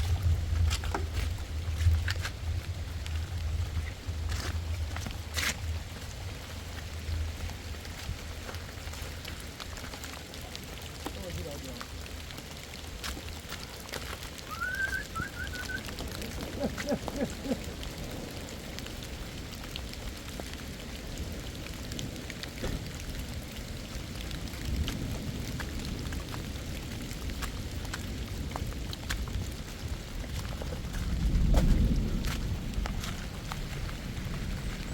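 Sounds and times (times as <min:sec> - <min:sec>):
low wind rumble: 0:00.0 - 0:34.9
steady rain falling: 0:00.0 - 0:34.9.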